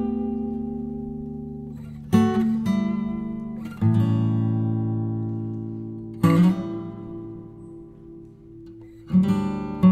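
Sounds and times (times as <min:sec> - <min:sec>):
strummed guitar chords: 0:00.0 - 0:09.9.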